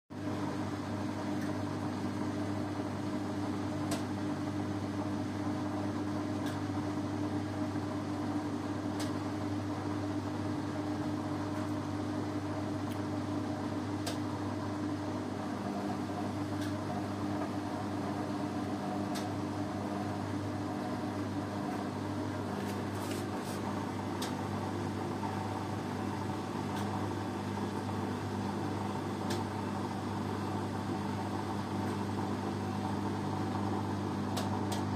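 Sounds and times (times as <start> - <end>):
washing machine motor hum: 0.1 - 34.9.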